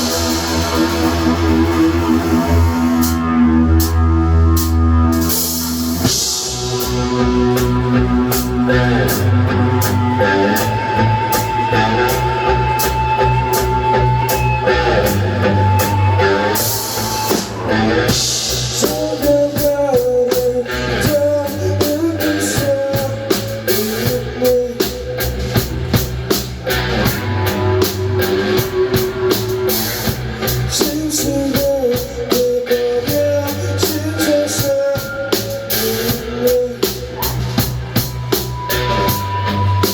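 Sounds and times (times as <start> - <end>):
bass guitar: 0.0 - 39.9
drum kit steady beat: 0.0 - 39.9
electric guitar: 0.0 - 39.9.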